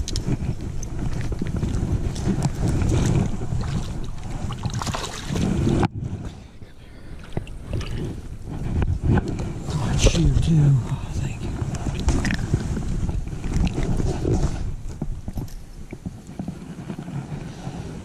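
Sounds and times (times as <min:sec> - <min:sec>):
water splashing and sloshing: 0:00.0 - 0:06.6, 0:07.2 - 0:17.1
wind rumbling on microphone: 0:00.0 - 0:18.0.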